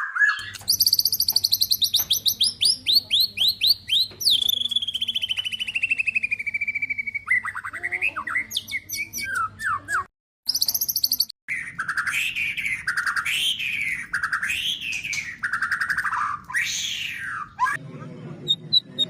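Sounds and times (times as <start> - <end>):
bird song whistles and trills: 0.0 - 17.8
warbled bird phrases: 0.0 - 19.0.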